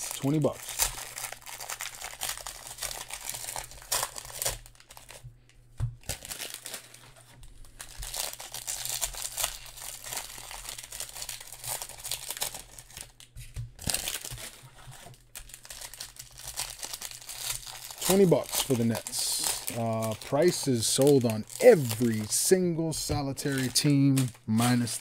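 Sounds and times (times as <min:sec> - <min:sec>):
plastic card wrappers crinkling: 0:00.0 - 0:25.0.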